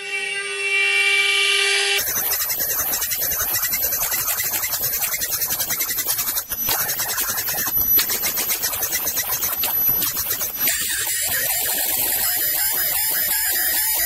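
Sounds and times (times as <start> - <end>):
router spindles rasping: 2.0 - 14.0.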